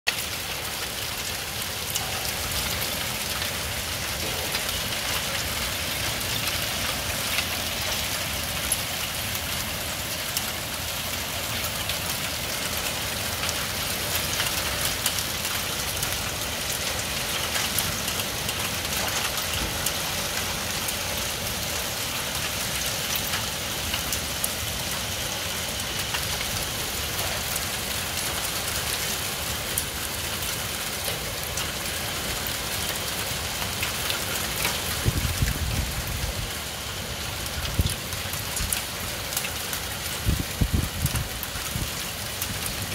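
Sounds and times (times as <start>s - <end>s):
heavy rain: 0.1s - 42.9s
raindrops tapping surfaces: 0.1s - 42.9s.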